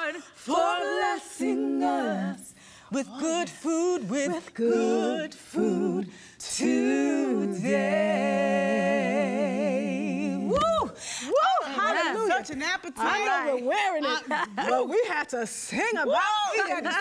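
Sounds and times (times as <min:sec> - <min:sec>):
women singing a cappella: 0:00.0 - 0:13.7.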